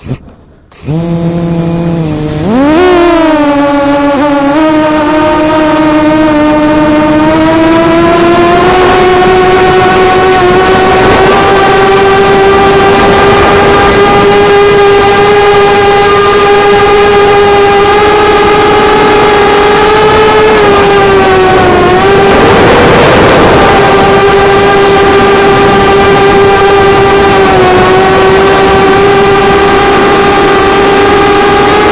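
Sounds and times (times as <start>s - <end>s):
quadcopter motors buzzing whine: 0.0s - 31.9s.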